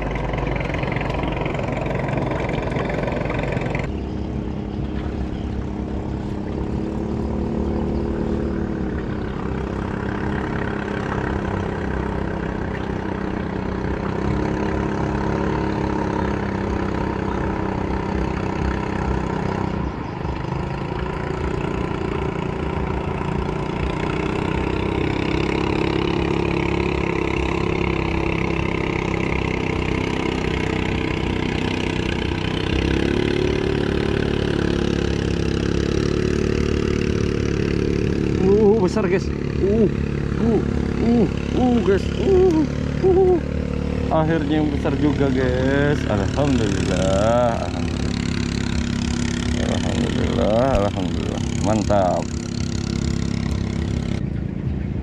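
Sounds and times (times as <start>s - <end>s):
engine humming steadily: 0.0s - 55.0s.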